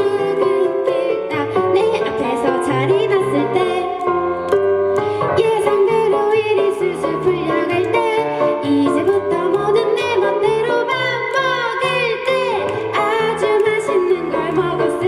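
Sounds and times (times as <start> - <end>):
woman singing: 0.0 - 4.2, 5.3 - 15.0.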